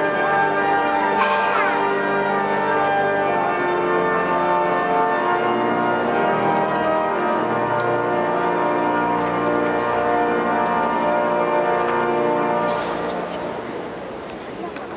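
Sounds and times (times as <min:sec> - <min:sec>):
pipe organ playing chords: 0:00.0 - 0:14.6.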